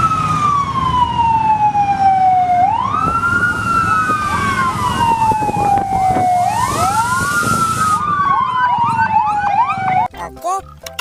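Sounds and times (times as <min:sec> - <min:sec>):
fire engine siren wailing: 0:00.0 - 0:10.1.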